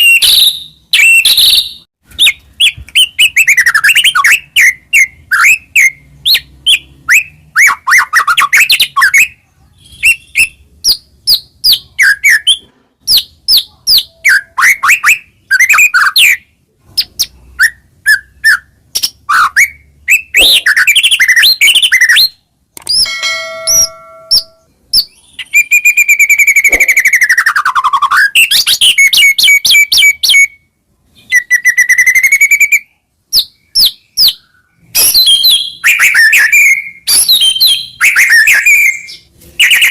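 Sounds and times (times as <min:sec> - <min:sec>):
songbird singing chirps and whistles: 0:00.0 - 0:23.2, 0:23.8 - 0:39.9.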